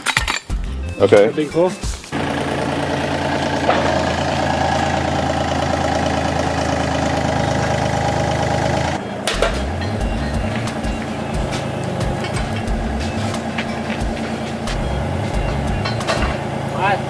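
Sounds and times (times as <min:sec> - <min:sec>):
excavator engine running: 0:01.8 - 0:17.0
hydraulic whine: 0:02.1 - 0:17.0.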